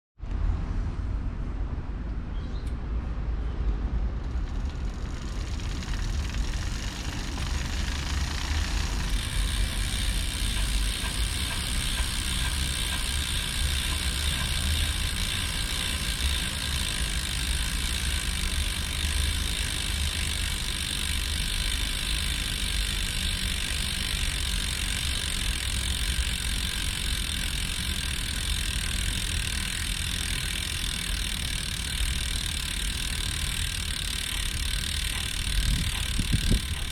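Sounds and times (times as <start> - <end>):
bicycle wheel freehub noise: 3.5 - 36.9.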